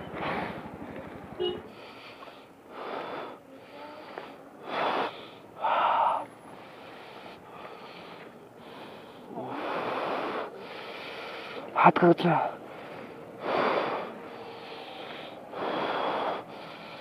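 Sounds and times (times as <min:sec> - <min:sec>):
person breathing hard: 0:01.7 - 0:11.7, 0:12.5 - 0:17.0.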